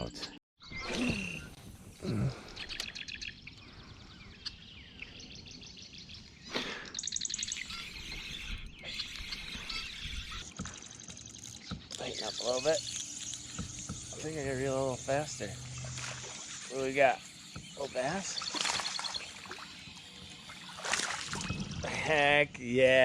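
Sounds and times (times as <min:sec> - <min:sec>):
birds chirping and trilling: 0:00.0 - 0:22.9.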